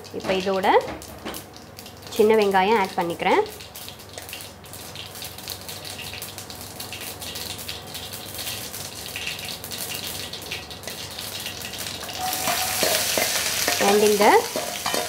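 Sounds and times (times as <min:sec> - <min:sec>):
seeds sizzling and popping in oil: 0:01.6 - 0:15.0.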